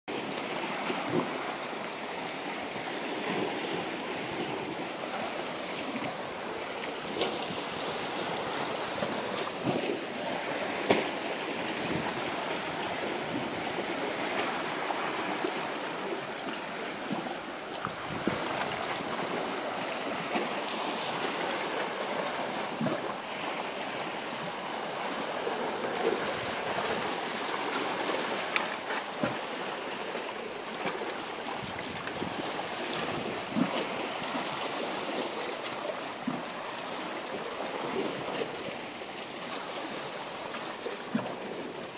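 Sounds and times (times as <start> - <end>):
water splashes: 0.1 - 41.9
waves lapping against rocks: 0.1 - 41.9.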